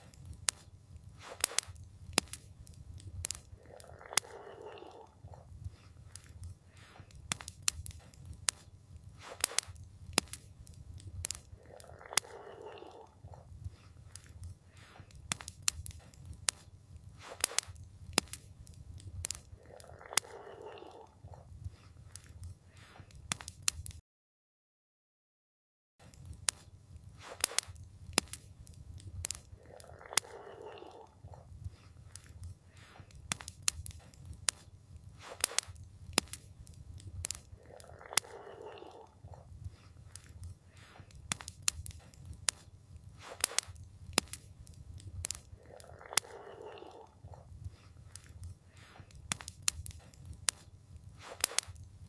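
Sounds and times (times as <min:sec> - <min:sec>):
campfire crackling and popping: 0:00.0 - 0:24.0, 0:26.0 - 0:52.0
low fire rumble: 0:00.0 - 0:24.0, 0:26.1 - 0:52.0.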